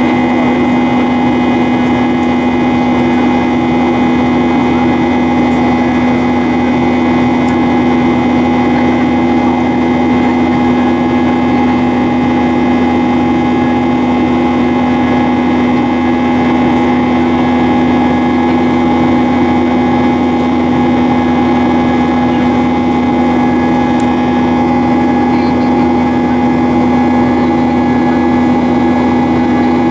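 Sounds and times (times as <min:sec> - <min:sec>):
jet engine drone in cabin: 0:00.0 - 0:29.9.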